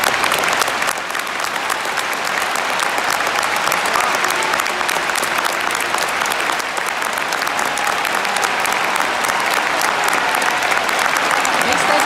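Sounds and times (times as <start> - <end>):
stadium crowd applauding: 0.0 - 12.0.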